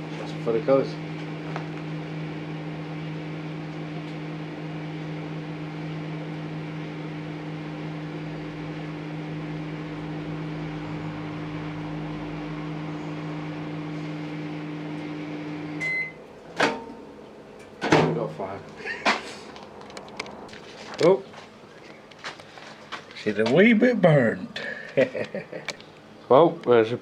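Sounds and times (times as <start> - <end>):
microwave oven humming: 0.0 - 27.0.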